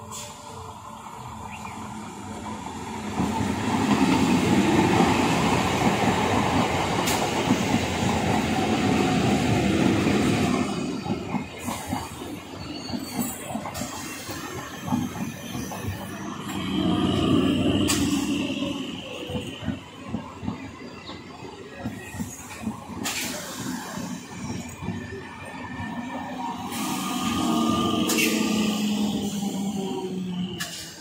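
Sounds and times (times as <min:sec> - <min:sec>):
electric train passing: 0:00.0 - 0:31.0.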